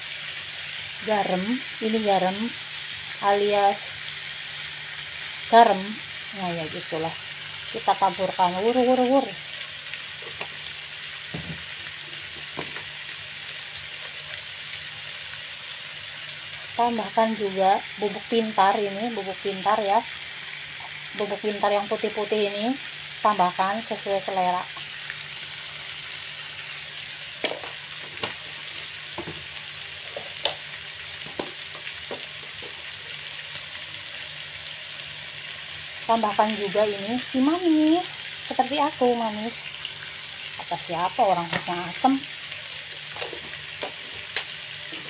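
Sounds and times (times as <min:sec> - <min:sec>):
food sizzling in a wok: 0:00.0 - 0:45.0.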